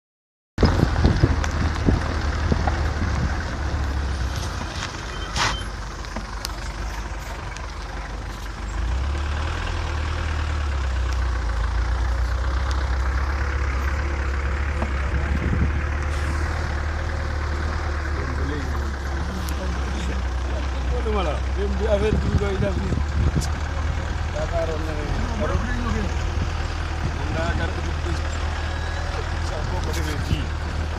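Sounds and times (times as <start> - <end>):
vehicle engine and road rumble: 0.6 - 30.9.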